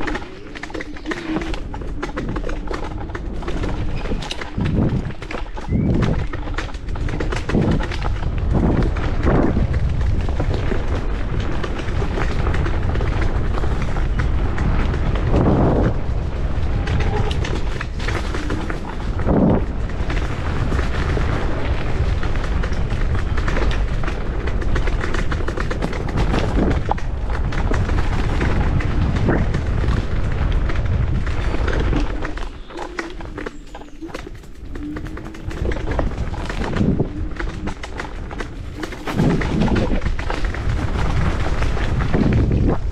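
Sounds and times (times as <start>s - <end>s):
electric scooter rattling over dirt: 0.0s - 42.9s
wind rumble on microphone: 0.0s - 42.9s.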